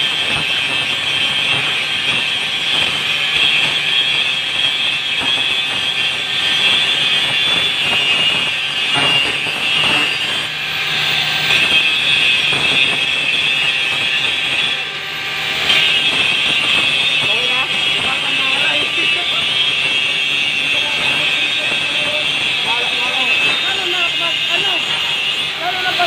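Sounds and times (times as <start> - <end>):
angle grinder grinding metal: 0.0 - 26.0.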